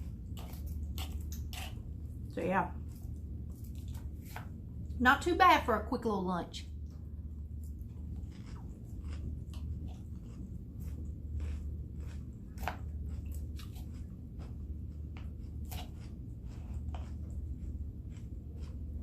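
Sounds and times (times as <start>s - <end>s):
person chewing crunchy food: 0.0s - 4.6s, 7.3s - 19.0s
steady low hum: 0.0s - 19.0s.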